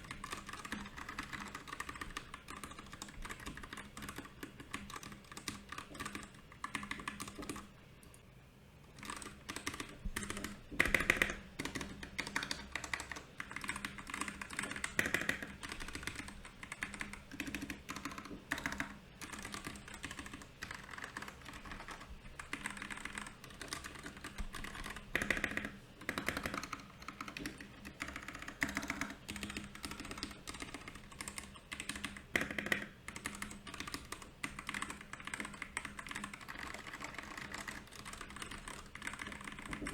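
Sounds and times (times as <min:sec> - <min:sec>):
mechanical keyboard typing: 0:00.0 - 0:07.7, 0:08.9 - 0:39.9.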